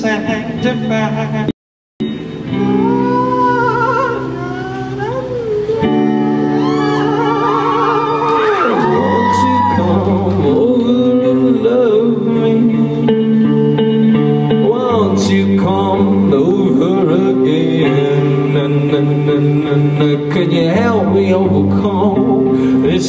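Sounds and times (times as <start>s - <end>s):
bass line: 0.0s - 23.0s
electric guitar melody: 0.0s - 23.0s.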